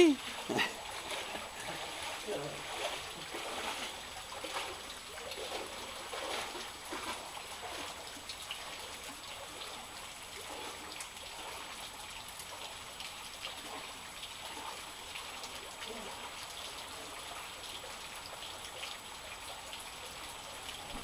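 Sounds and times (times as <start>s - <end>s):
soft water sloshing: 0.0s - 20.1s
water trickling and flowing: 0.0s - 21.0s.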